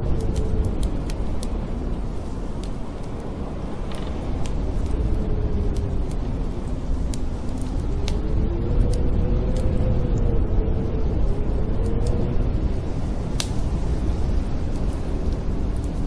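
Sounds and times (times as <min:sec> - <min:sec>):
blizzard wind howling: 0:00.0 - 0:16.0
wood fire crackling: 0:00.0 - 0:16.0.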